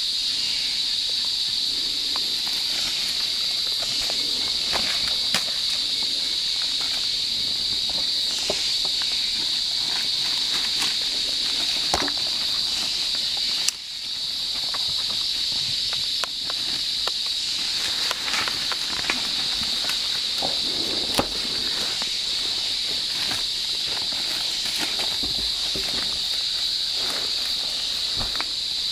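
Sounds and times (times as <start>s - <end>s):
insects droning: 0.0s - 28.9s
crackling of leaves and twigs: 1.2s - 28.9s.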